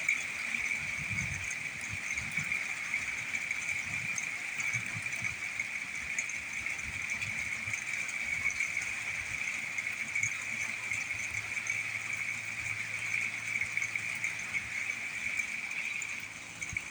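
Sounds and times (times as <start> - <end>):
faint small ticks: 0.0 - 16.9.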